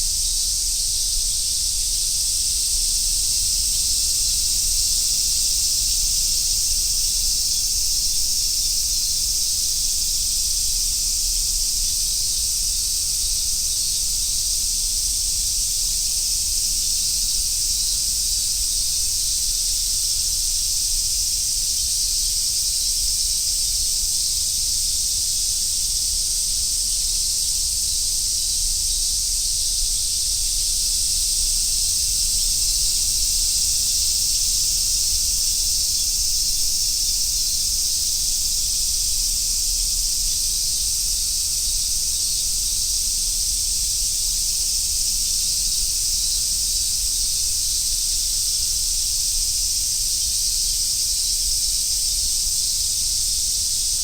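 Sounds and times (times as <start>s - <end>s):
cicadas shrilling: 0.0s - 54.0s.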